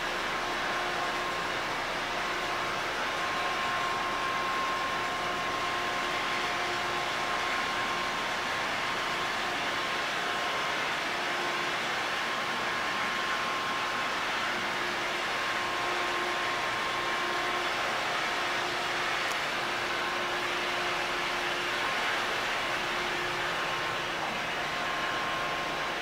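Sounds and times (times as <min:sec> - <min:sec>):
engine room machinery rush: 0:00.0 - 0:26.0.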